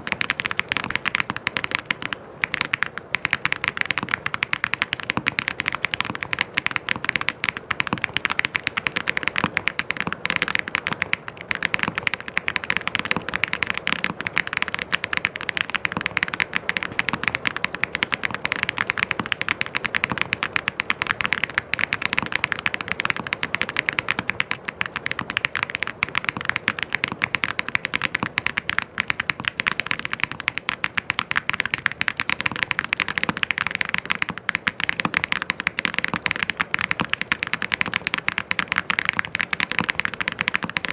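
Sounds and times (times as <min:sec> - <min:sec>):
typing on mechanical keyboard: 0:00.0 - 0:40.9.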